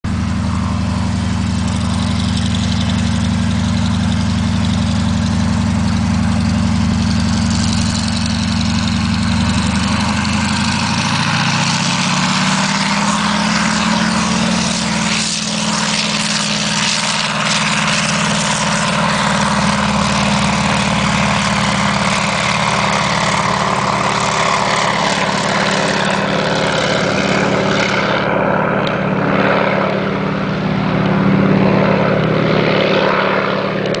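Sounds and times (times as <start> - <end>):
plane engine and propeller running up: 0.0 - 34.0.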